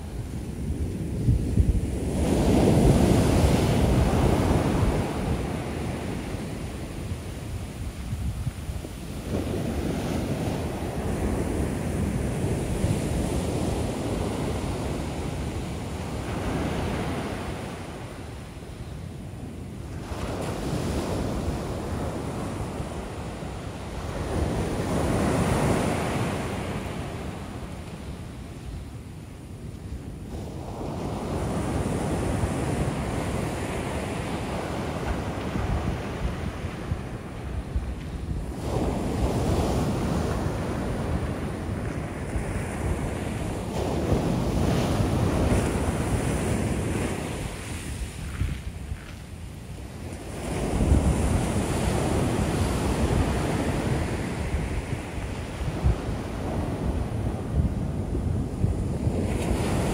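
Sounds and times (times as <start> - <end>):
small waves breaking on beach: 0.0 - 59.9
wind buffeting microphone: 0.0 - 59.9.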